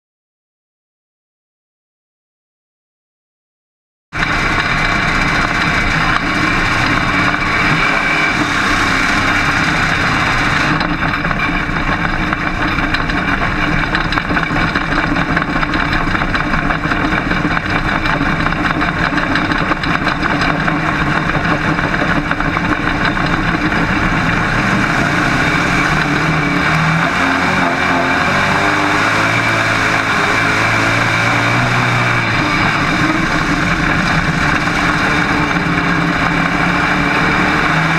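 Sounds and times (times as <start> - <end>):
race car engine running: 4.2 - 37.9.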